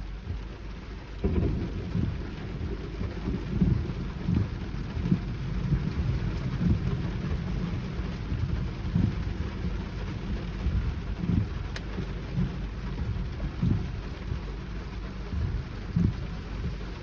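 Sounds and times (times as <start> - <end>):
heavy rain pouring: 0.0 - 17.0
low rumble: 0.0 - 17.0.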